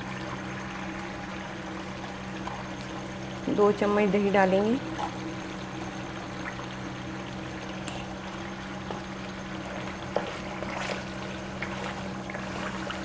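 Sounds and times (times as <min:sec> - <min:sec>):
meat sizzling and bubbling: 0:00.0 - 0:13.0
steady low hum: 0:00.0 - 0:13.0.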